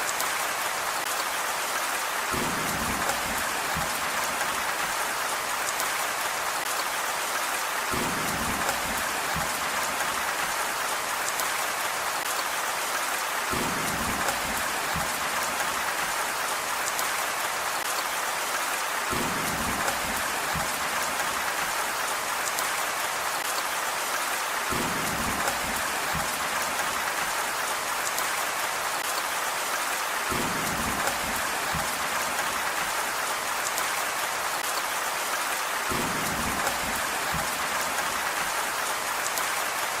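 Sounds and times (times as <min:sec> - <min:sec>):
heavy rain hiss: 0:00.1 - 0:40.0.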